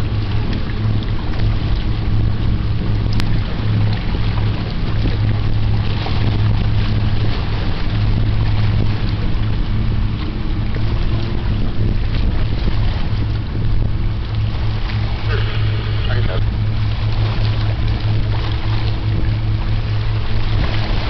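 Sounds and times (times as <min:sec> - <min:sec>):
boat engine droning: 0:00.0 - 0:21.0
wind and water noise: 0:00.0 - 0:21.0.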